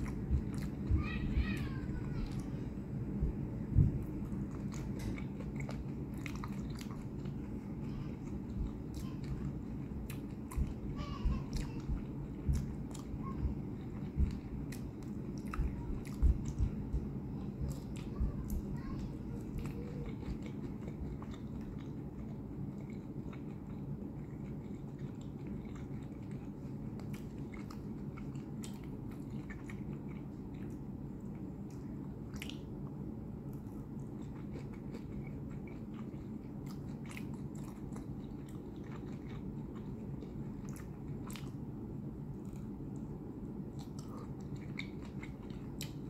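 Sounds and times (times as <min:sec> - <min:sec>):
chewing and biting: 0:00.0 - 0:00.9, 0:03.9 - 0:46.0
low hum: 0:00.0 - 0:46.0.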